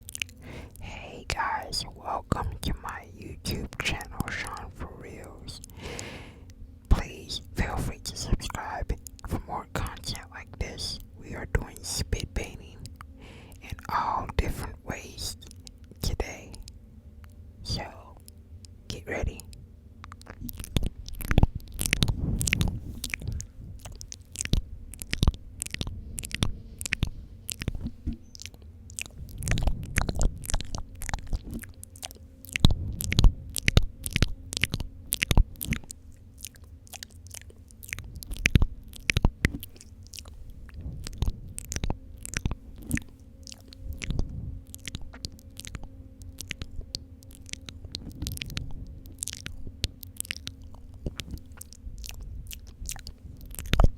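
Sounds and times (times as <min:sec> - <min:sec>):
wet lip and tongue clicks: 0:00.0 - 0:53.9.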